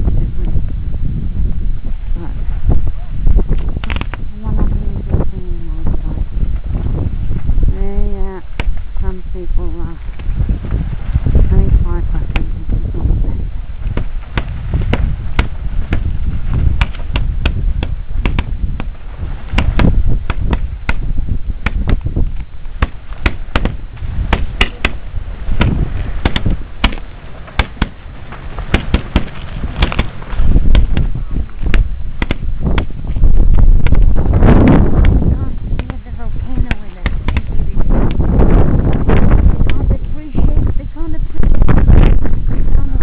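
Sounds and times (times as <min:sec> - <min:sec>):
lava crackling and popping: 0:00.0 - 0:43.0
wind rumble on microphone: 0:00.0 - 0:43.0.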